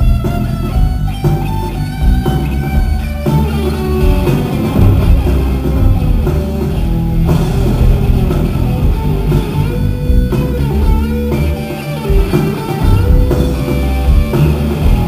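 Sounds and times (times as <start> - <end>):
bass guitar: 0.0 - 15.0
drums: 0.0 - 15.0
electric guitar bending notes: 0.0 - 15.0.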